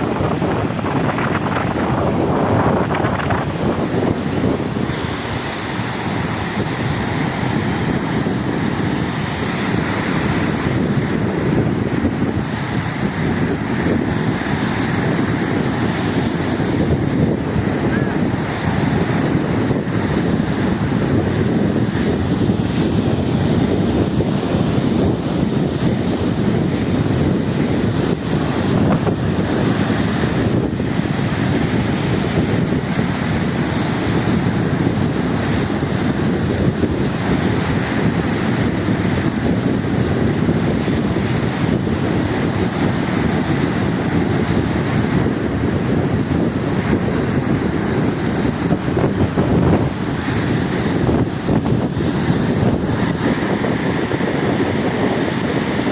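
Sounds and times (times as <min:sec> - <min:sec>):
sea rushing: 0:00.0 - 0:55.9
wind buffeting microphone: 0:00.0 - 0:55.9.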